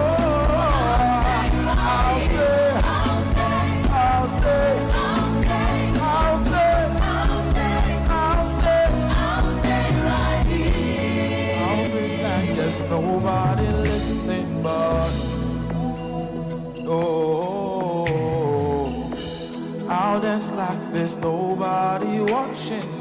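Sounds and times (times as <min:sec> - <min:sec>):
gospel band music with bass: 0:00.0 - 0:23.0.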